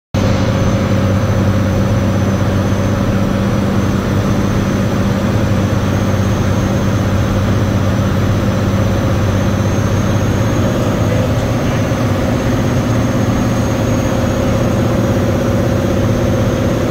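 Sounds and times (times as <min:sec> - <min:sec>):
aircraft engine and propeller drone: 0:00.2 - 0:16.9.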